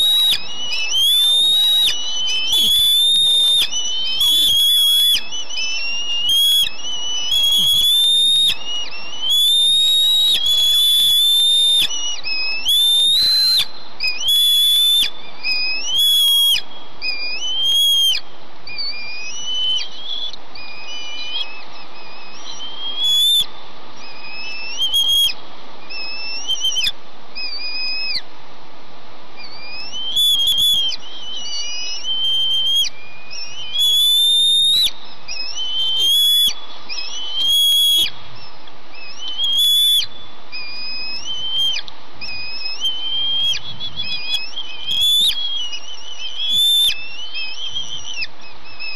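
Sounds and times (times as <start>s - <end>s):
eaglets begging calls: 0.0s - 28.2s, 29.4s - 48.9s
background hiss: 0.0s - 48.9s.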